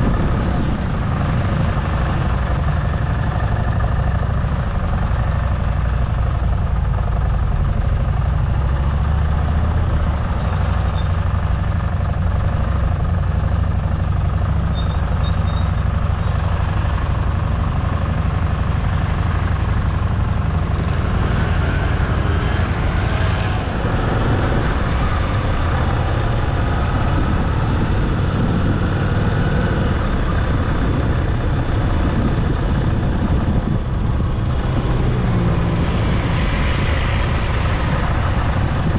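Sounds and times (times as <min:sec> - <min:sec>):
motorcycle engine drone: 0:00.0 - 0:38.9
road and wind rush: 0:00.0 - 0:38.9.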